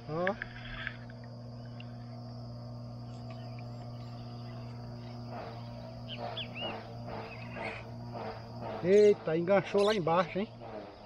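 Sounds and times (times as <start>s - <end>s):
insects chirring: 0.0s - 11.0s
low steady hum: 0.0s - 11.0s.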